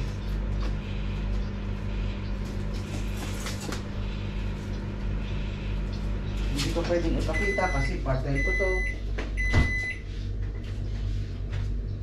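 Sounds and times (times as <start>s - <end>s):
appliance electrical hum: 0.0s - 12.0s.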